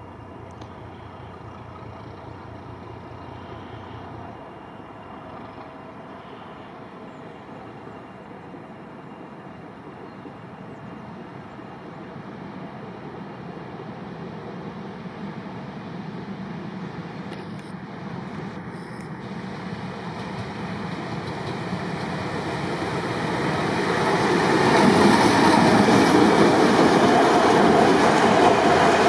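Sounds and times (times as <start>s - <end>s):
diesel locomotive engine rumble: 0.0s - 29.0s
outdoor background noise: 0.0s - 29.0s.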